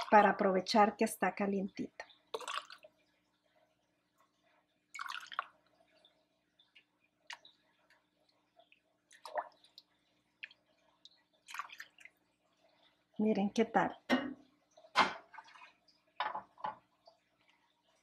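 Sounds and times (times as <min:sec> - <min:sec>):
liquid pouring and dripping: 0:00.0 - 0:18.0.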